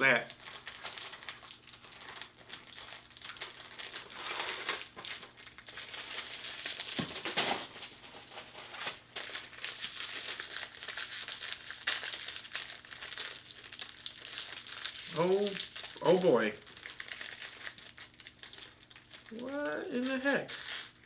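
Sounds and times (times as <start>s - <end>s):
foil packaging crinkling: 0.0s - 21.0s.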